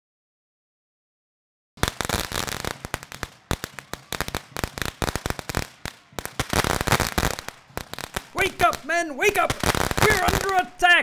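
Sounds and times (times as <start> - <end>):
fireworks crackling and popping: 1.8 - 11.0.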